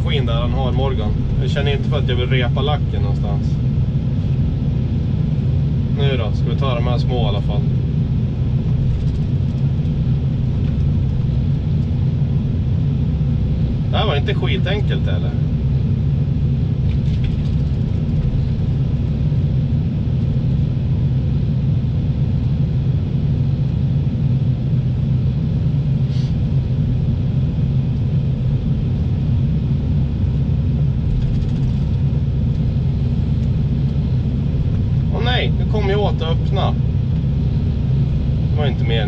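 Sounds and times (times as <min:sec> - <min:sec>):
diesel engine low rumble: 0:00.0 - 0:39.0.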